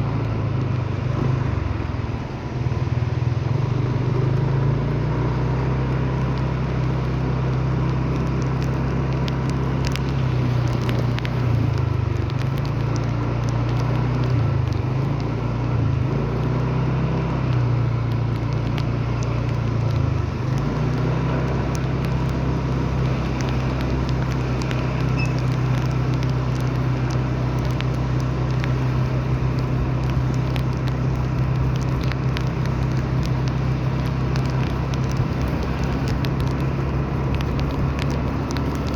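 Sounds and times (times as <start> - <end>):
light rain pattering: 0.0 - 38.9
low vehicle rumble: 0.0 - 38.9.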